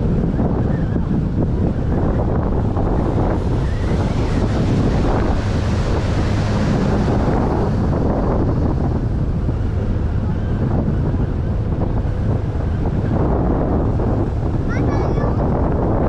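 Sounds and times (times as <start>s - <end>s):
boat engine drone: 0.0s - 16.0s
water rushing along hull: 0.0s - 16.0s
wind buffeting microphone: 0.0s - 16.0s.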